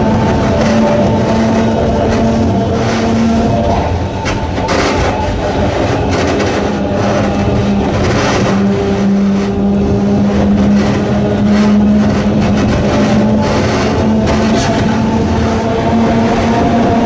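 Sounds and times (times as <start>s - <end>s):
electric train motor hum: 0.0s - 17.0s
rail rumble: 0.0s - 17.0s.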